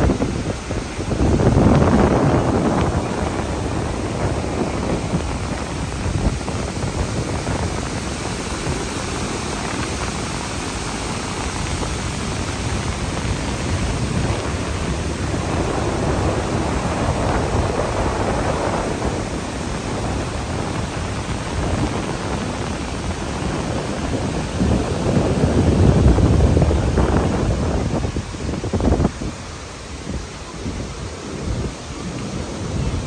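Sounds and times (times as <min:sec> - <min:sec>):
wind blowing across microphone: 0:00.0 - 0:33.0.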